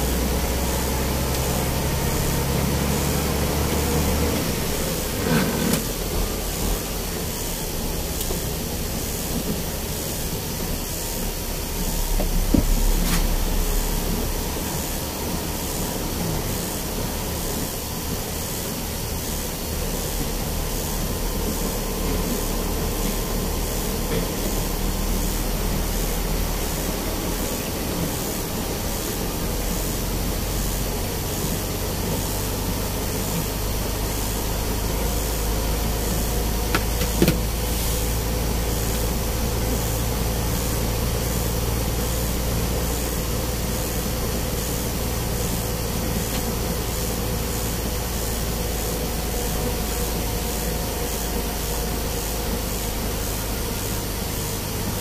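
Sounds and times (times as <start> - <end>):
steady hiss: 0.0 - 55.0
truck engine running: 0.0 - 55.0.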